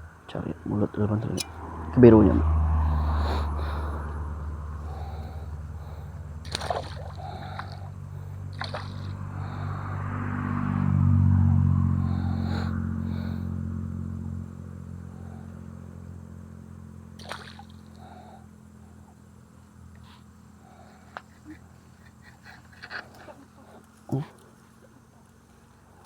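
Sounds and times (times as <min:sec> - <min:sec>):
motor vehicle passing by: 0:00.0 - 0:26.0.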